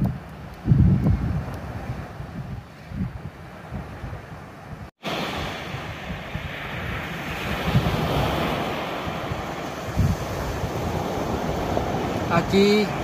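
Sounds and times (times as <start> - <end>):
surf washing on sand beach: 0.0 - 13.0
wind buffeting microphone: 0.0 - 13.0.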